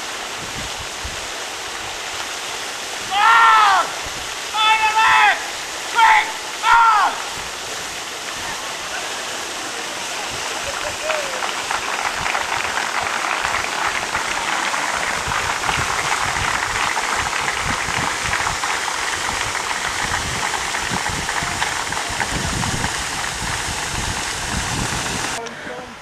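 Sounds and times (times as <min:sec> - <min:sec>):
wind gusting on microphone: 0:00.0 - 0:06.4, 0:07.1 - 0:25.4.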